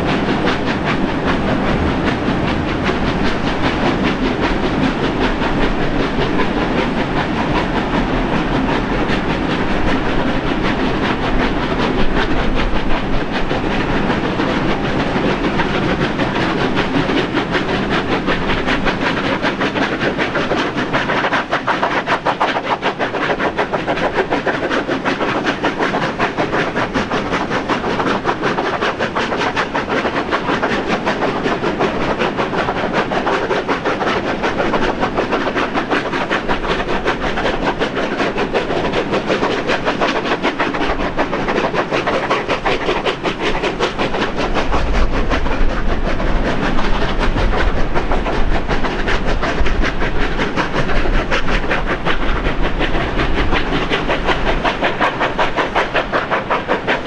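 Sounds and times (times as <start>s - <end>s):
steam locomotive exhaust beats: 0.0s - 57.0s
train wheels clattering on rails: 0.0s - 57.0s.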